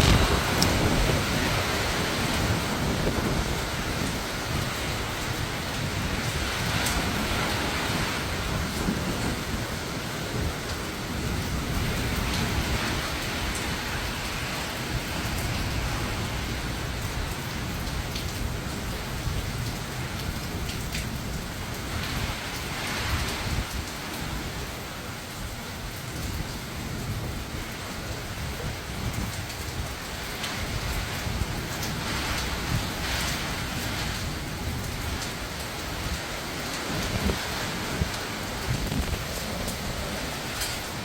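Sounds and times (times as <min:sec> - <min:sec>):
heavy rain: 0:00.0 - 0:41.0
hurricane wind gusts: 0:00.0 - 0:41.0.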